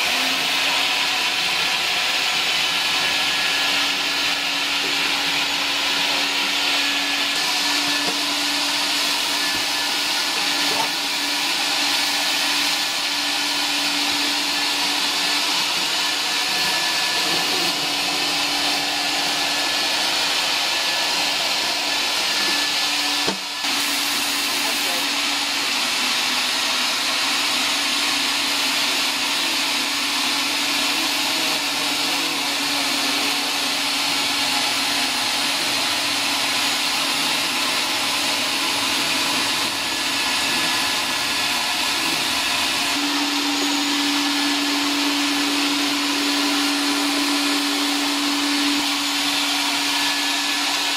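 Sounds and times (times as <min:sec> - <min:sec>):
wet vacuum running: 0:00.0 - 0:50.9.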